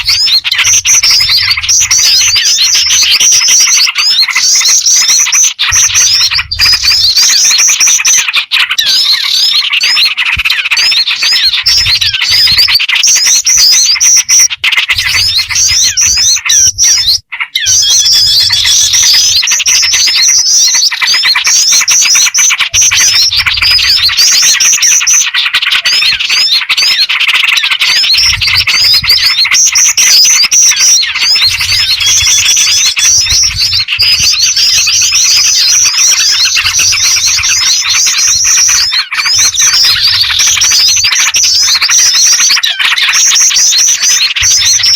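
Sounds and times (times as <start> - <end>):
chorus of bird chirps: 0.0 - 44.9.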